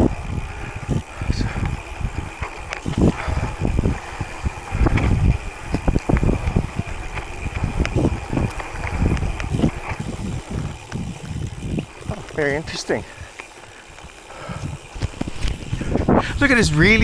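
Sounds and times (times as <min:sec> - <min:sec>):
bike knocking and rattling: 0:00.0 - 0:17.0
bike tyres rumbling: 0:00.0 - 0:17.0
wind buffeting microphone: 0:00.0 - 0:17.0.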